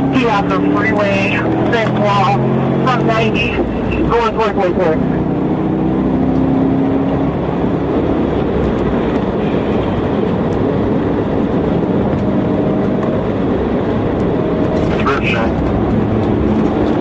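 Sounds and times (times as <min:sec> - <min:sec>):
loud vehicle rumble: 0:00.0 - 0:17.0.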